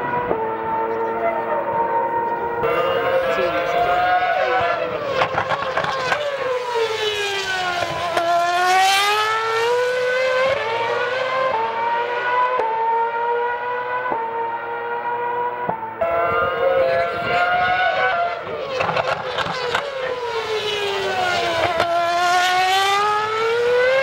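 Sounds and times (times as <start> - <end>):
race car accelerating with upshifts: 0.0 - 24.0
race car downshifting: 0.1 - 24.0.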